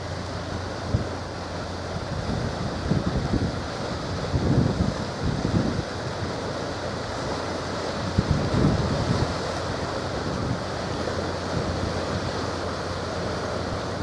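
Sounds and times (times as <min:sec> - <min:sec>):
wind and sea noise: 0:00.0 - 0:14.0
wind buffeting microphone: 0:00.1 - 0:14.0.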